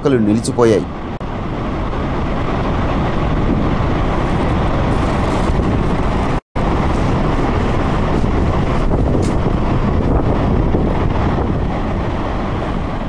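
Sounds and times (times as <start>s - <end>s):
floodwater rushing: 1.2s - 13.0s.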